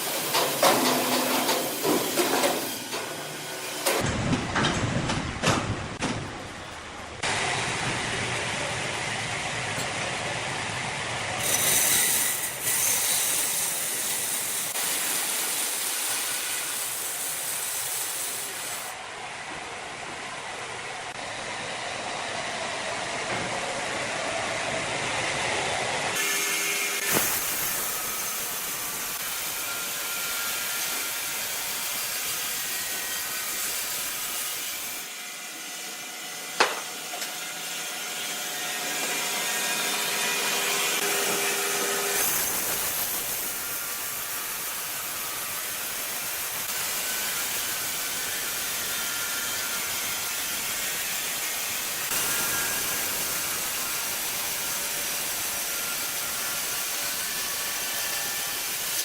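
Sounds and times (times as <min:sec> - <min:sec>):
sawmill machinery sawing wood: 0:00.0 - 0:04.0, 0:11.3 - 0:19.0, 0:21.1 - 0:59.0.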